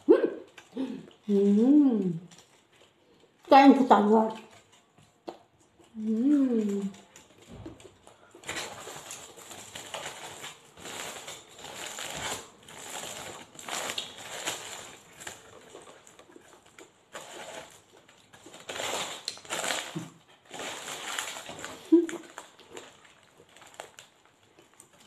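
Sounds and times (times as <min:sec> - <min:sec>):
person chewing food: 0:00.0 - 0:01.3, 0:02.0 - 0:03.5, 0:04.4 - 0:25.0.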